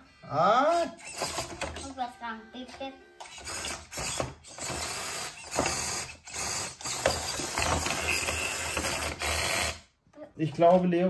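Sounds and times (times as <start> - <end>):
small electric motor and gearbox: 0.6 - 9.9.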